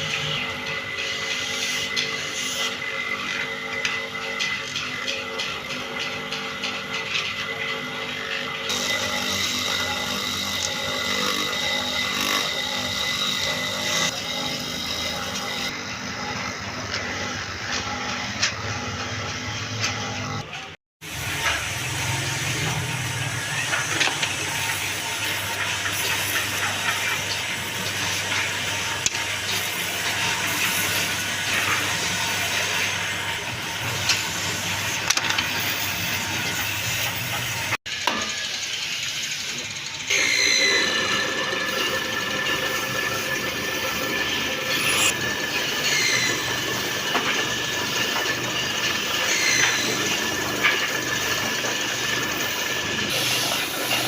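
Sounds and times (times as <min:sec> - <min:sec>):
high motor whine: 0:00.0 - 0:54.0
workshop machinery hissing: 0:00.0 - 0:54.0.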